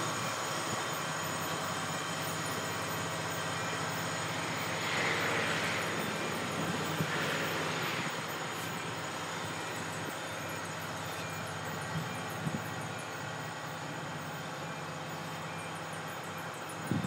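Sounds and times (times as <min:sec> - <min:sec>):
diesel locomotive engine humming: 0:00.0 - 0:17.0.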